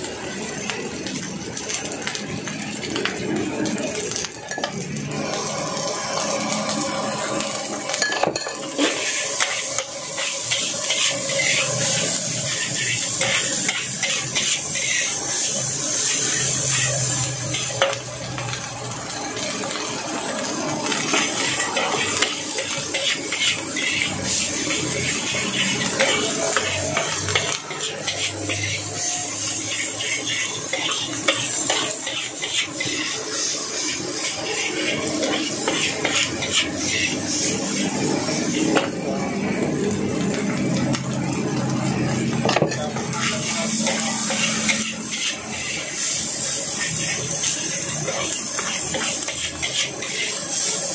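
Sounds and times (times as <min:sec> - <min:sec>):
food sizzling: 0:00.0 - 0:50.9
metal spatula scraping wok: 0:02.8 - 0:18.6, 0:19.2 - 0:39.0, 0:42.1 - 0:50.9.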